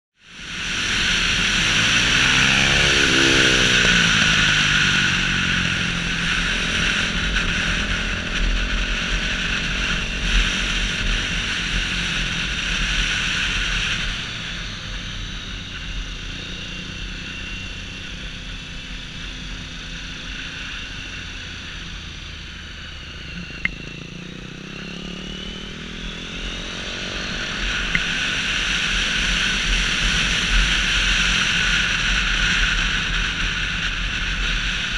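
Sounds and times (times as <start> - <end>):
motorcycle engine accelerating: 0.2 - 34.9.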